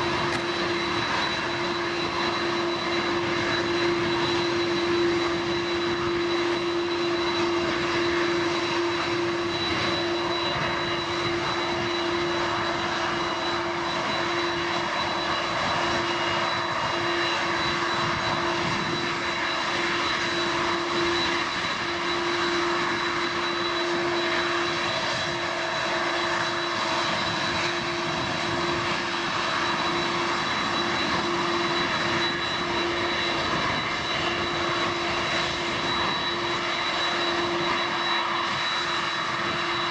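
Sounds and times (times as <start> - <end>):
jet engines running at taxi power: 0.0 - 39.9.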